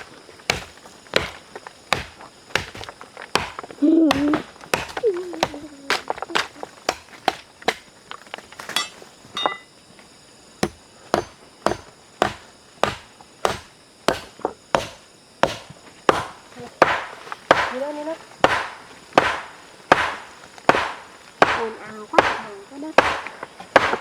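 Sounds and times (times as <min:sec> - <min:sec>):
chopping blows on wood: 0:00.0 - 0:07.9, 0:10.6 - 0:17.8, 0:18.4 - 0:24.0.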